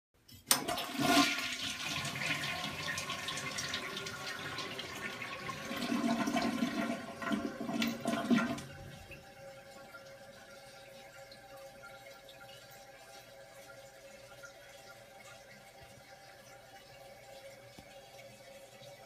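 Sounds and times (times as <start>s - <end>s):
toilet flushing: 0.5s - 19.0s.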